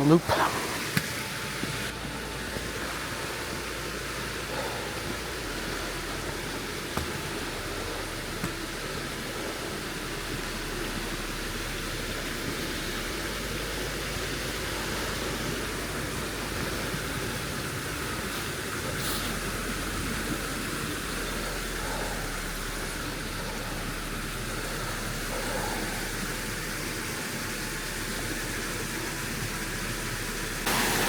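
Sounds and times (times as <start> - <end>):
creek rushing: 0.0 - 31.0.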